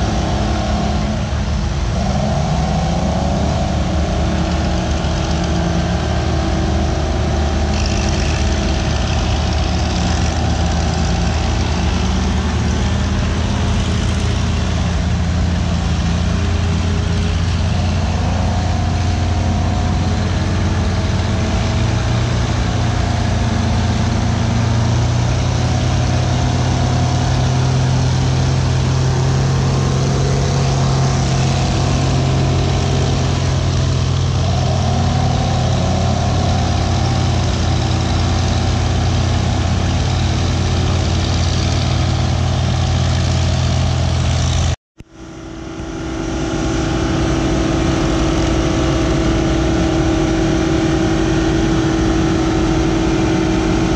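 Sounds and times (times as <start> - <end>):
dozer pushing dirt: 0.0 - 53.9
heavy diesel engines droning: 0.0 - 53.9.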